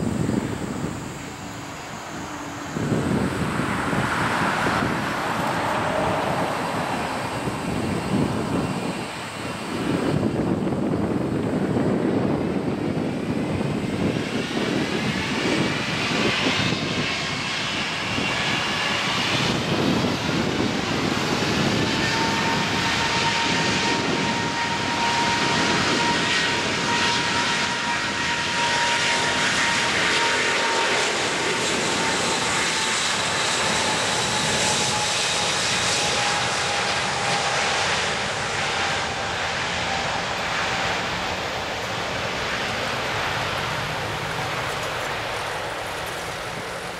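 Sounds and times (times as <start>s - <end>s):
jet engines at takeoff thrust: 0.0s - 46.9s.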